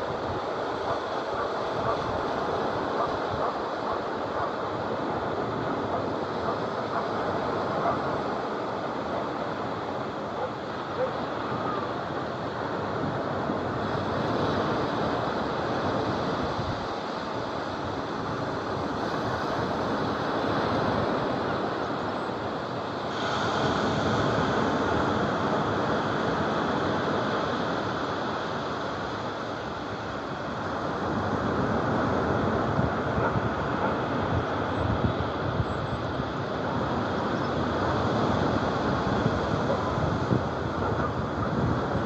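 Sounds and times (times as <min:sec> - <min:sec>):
small waves breaking on shore: 0:00.0 - 0:42.0.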